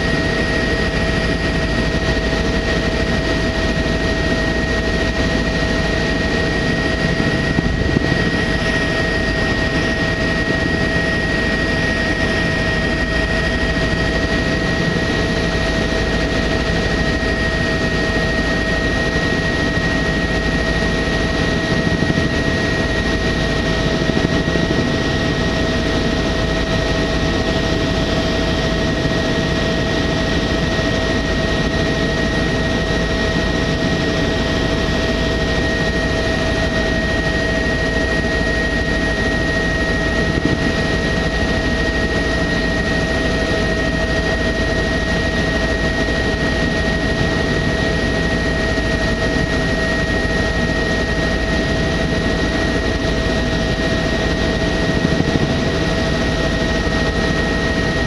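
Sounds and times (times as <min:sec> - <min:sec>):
high-pitched whine: 0:00.0 - 0:28.0, 0:32.6 - 0:58.0
helicopter engine and rotor: 0:00.0 - 0:58.0.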